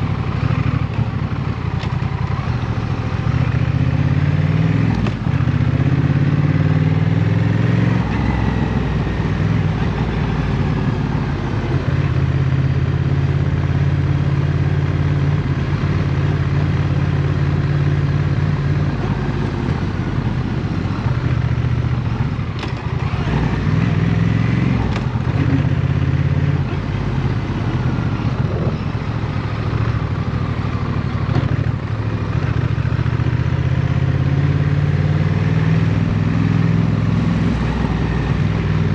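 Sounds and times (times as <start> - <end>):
city traffic: 0.0 - 38.9
motorcycle engine running: 0.0 - 38.9.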